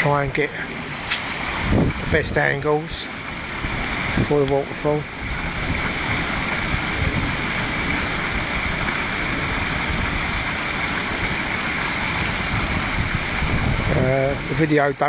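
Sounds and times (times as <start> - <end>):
water pouring over rocks: 0.0 - 15.0.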